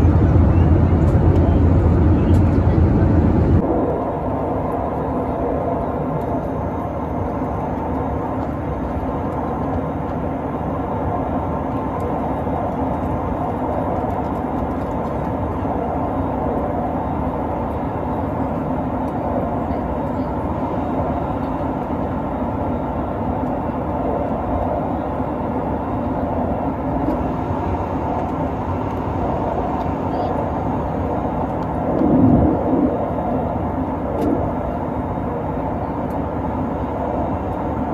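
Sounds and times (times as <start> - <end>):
jet cabin engine and airflow rush: 0.0 - 37.9.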